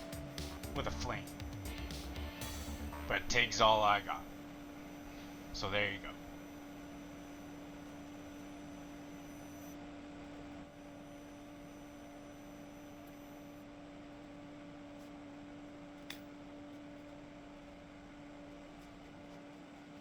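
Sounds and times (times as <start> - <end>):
welder electrical hum: 0.0 - 20.0.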